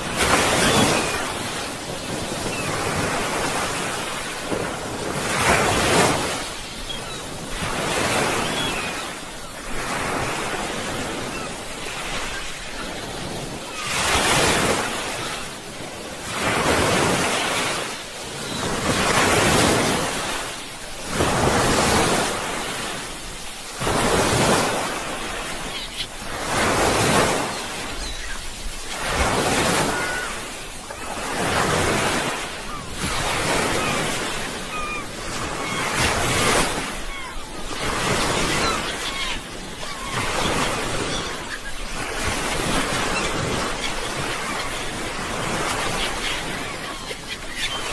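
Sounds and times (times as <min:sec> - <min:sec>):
sea waves breaking: 0:00.0 - 0:47.9.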